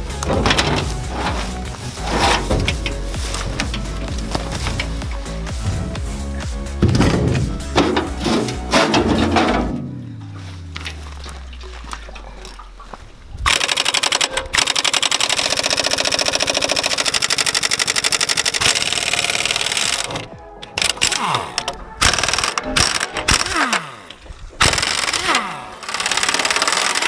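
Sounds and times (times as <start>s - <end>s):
air impact wrench hammering: 0.0s - 9.9s, 13.5s - 27.0s.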